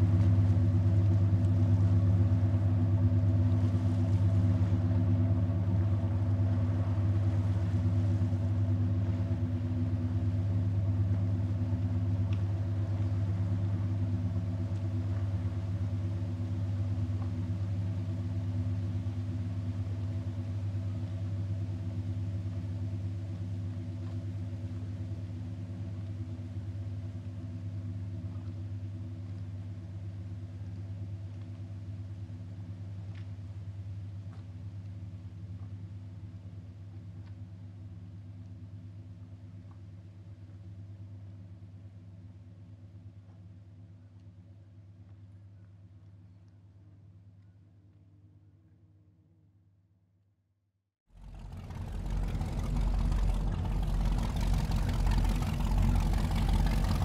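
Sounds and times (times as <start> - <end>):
boat engine low drone: 0.0 - 49.8, 51.1 - 57.0.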